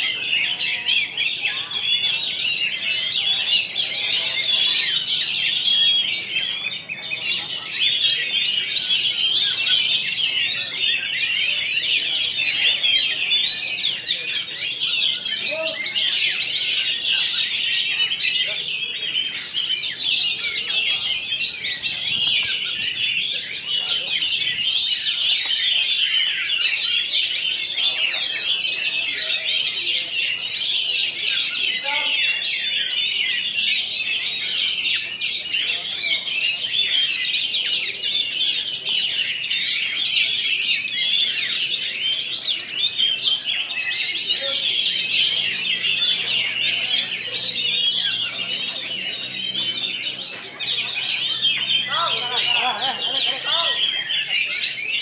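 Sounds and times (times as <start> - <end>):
birds singing high whistled notes: 0.0 - 55.0.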